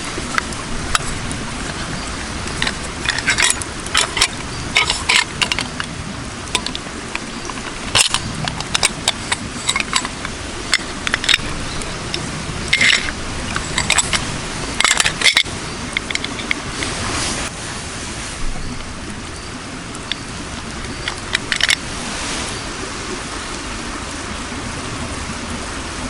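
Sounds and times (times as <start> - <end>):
background rush: 0.0 - 26.0.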